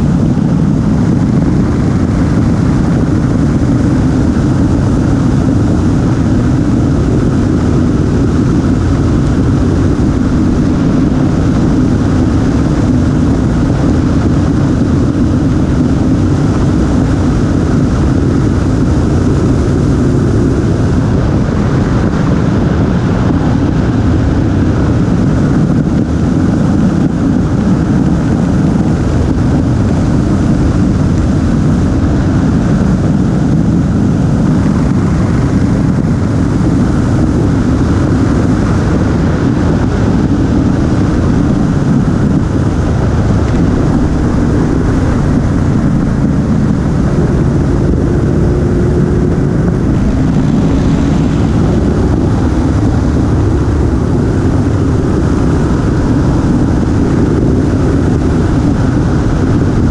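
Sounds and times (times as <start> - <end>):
motorcycle engine and tyre noise: 0.0 - 59.9
wind rushing over microphone: 0.0 - 59.9.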